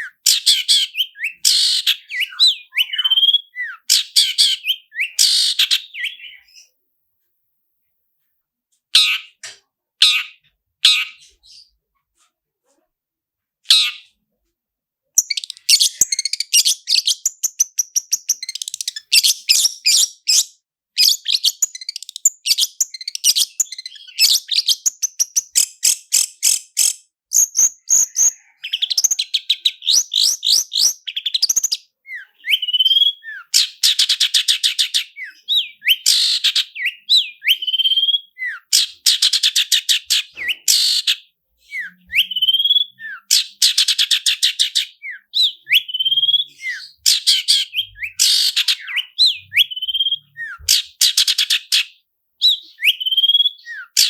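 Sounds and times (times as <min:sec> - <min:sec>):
bird singing rapid trills: 0:00.0 - 0:06.6, 0:15.2 - 0:51.8, 0:52.4 - 0:54.0.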